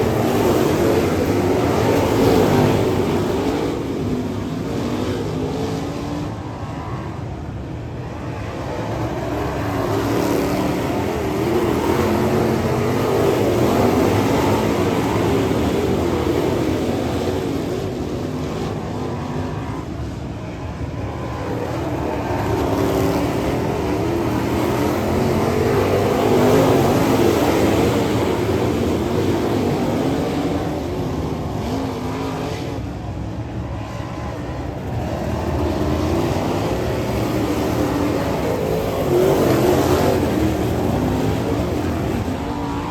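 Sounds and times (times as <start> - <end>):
race car engines at speed: 0.0 - 42.9.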